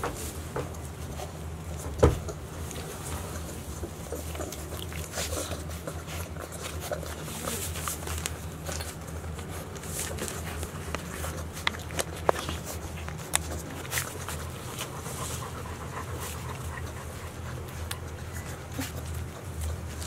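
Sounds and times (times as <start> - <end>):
puppies suckling wet smacking: 2.2 - 20.0.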